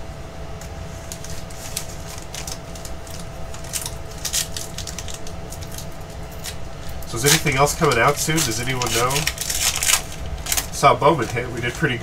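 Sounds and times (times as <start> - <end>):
faint steady hum: 0.0 - 12.0
wrapper crinkling and tearing: 1.1 - 12.0.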